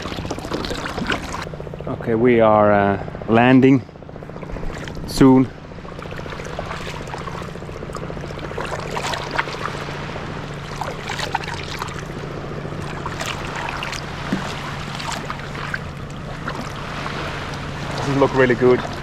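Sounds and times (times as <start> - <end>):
paddles splashing in water: 0.0 - 1.5, 4.0 - 19.0
water dripping off paddles: 0.0 - 1.5, 3.9 - 19.0
steady low hum: 0.0 - 19.0.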